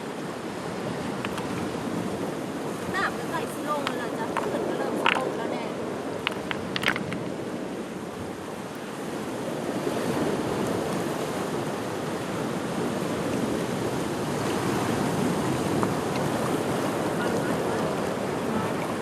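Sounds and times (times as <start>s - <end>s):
surf washing against rocky shore: 0.0s - 19.0s.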